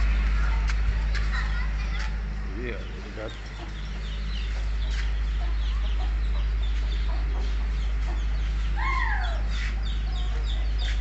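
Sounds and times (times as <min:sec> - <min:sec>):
chickens clucking: 0:00.0 - 0:11.0
low rumble: 0:00.0 - 0:11.0.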